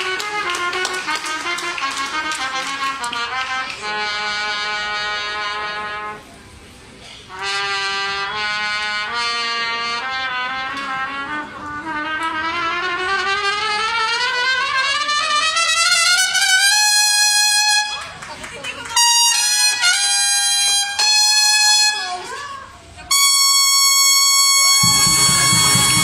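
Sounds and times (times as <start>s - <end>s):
solo trumpet: 0.0s - 6.5s, 7.3s - 18.2s, 18.9s - 22.4s, 23.0s - 26.0s.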